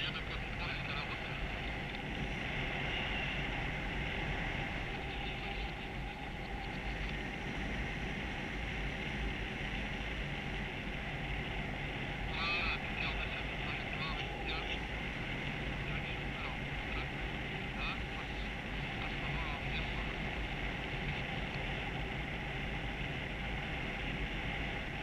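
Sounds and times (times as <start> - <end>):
wind rushing on microphone: 0.0 - 25.0.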